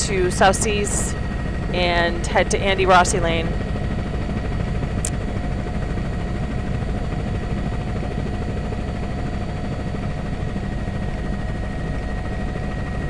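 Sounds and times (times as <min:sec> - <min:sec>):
faint steady whines: 0:00.0 - 0:13.0
helicopter cabin drone: 0:00.0 - 0:13.0.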